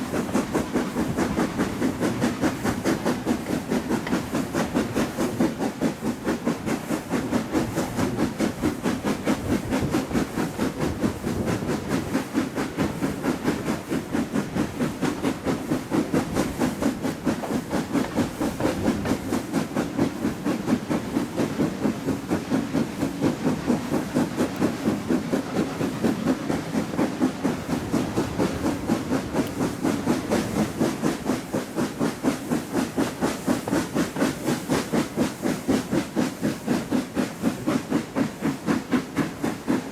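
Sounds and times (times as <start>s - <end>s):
steam hiss: 0.0s - 39.9s
steam locomotive exhaust beats: 0.0s - 39.9s.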